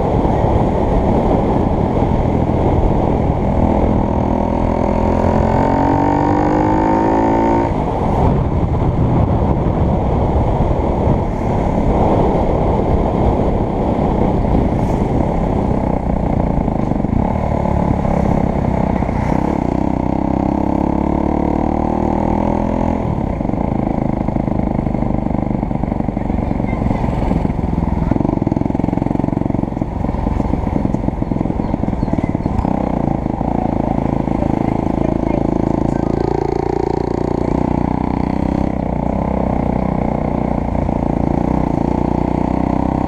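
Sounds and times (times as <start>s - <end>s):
dense rushing noise: 0.0s - 42.6s
motorcycle engine running: 0.0s - 43.0s.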